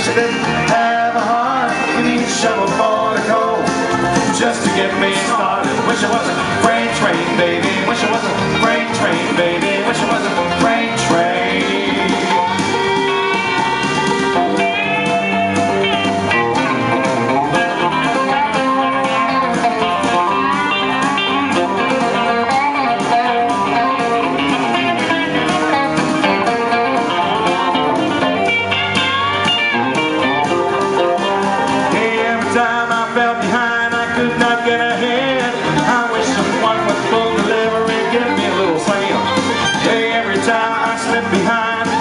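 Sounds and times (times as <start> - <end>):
country rock band: 0.0 - 42.0
electric guitar lead with bent notes: 0.0 - 42.0
steady drum beat: 0.0 - 42.0.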